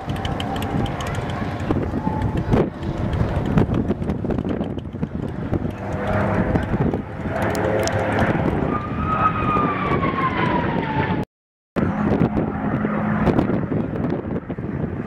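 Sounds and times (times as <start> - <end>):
propeller plane flying past: 0.0 - 11.2, 11.8 - 15.0.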